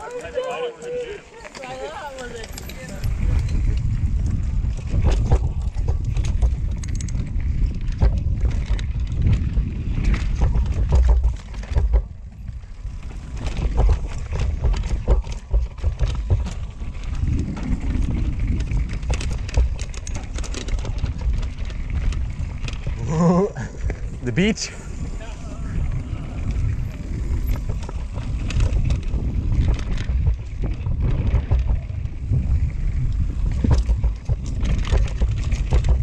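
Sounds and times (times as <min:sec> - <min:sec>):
bike clicking and rattling: 0:00.0 - 0:36.0
tyres rumbling on dirt: 0:00.0 - 0:36.0.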